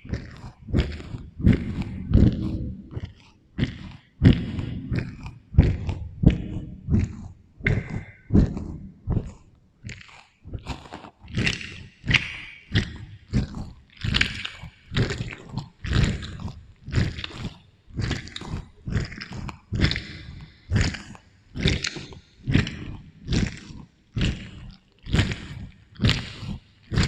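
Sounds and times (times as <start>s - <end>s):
wet chewing of fruit: 0.0s - 27.0s.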